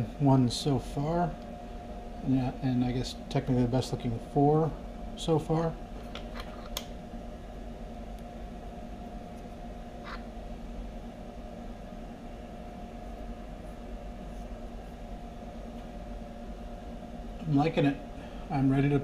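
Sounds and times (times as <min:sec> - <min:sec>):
motor hum: 0:00.0 - 0:19.0.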